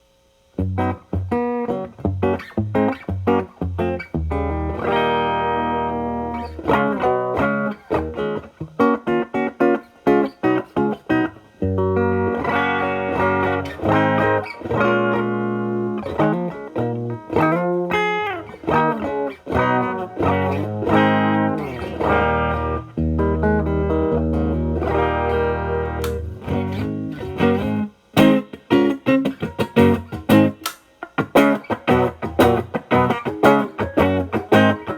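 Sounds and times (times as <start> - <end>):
clean electric guitar: 0.5 - 34.9.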